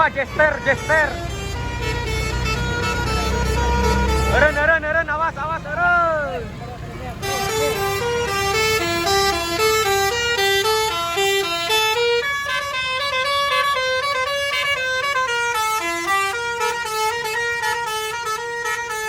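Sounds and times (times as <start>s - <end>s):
bus horn playing a tune: 0.0s - 5.1s, 7.1s - 19.0s.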